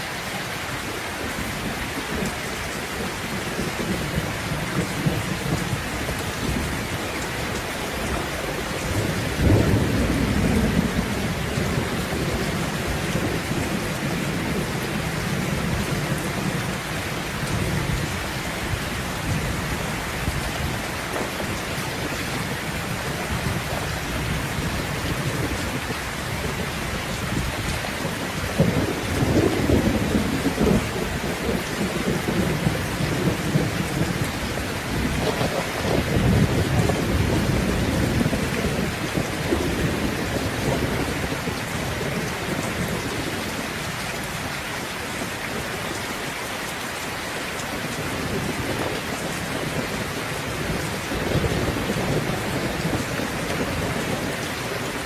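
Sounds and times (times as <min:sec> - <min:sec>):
heavy rain: 0:00.0 - 0:55.0
rolling thunder: 0:03.0 - 0:44.5, 0:48.0 - 0:55.0.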